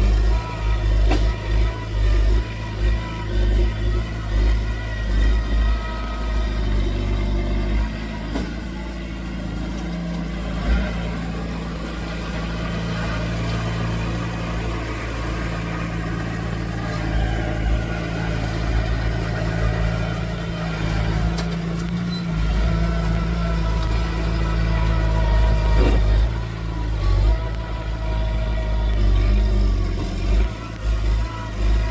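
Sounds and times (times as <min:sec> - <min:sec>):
heavy machinery diesel engine: 0:00.0 - 0:31.9.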